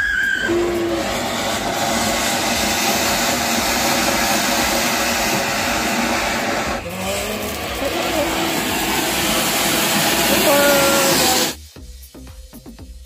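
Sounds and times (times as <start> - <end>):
firework fountain hissing: 0.0 - 12.7.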